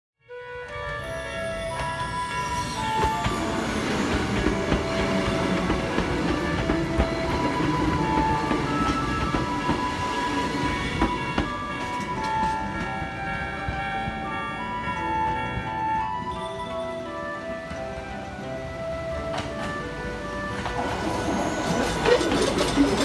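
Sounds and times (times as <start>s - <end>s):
background music with held notes: 0.2s - 23.0s
electric train passing: 0.3s - 23.0s
train wheels rumbling on rails: 0.6s - 23.0s.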